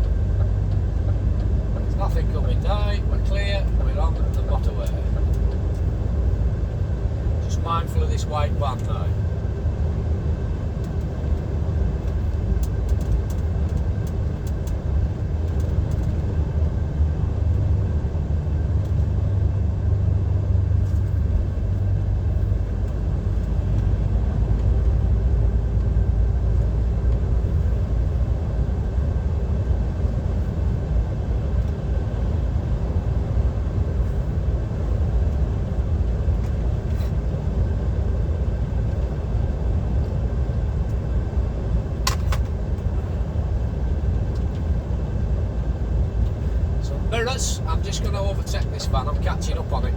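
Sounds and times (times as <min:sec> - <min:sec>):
diesel lorry engine drone: 0:00.0 - 0:49.9
road noise: 0:00.0 - 0:49.9.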